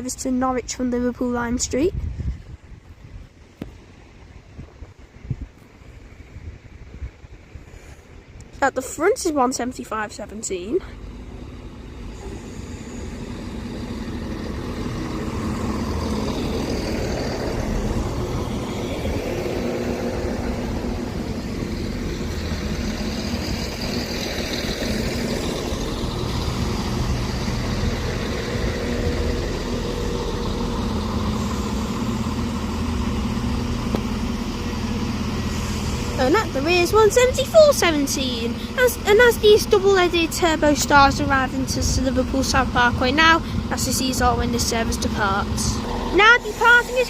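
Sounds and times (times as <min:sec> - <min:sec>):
diesel train engines humming: 0:00.0 - 0:47.0.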